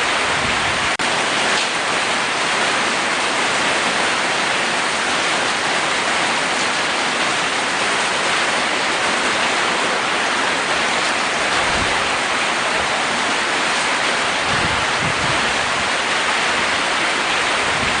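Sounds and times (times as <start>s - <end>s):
rain pattering on a roof: 0.0s - 18.0s.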